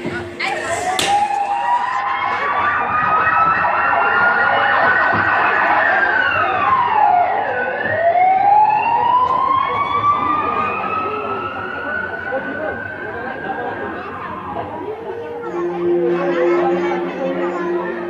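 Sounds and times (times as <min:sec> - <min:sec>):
siren wailing: 0:01.1 - 0:18.0.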